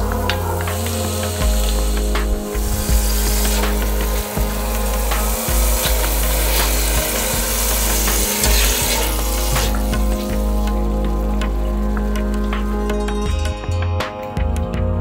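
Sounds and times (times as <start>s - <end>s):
chicken sizzling in hot oil: 0.0s - 13.2s.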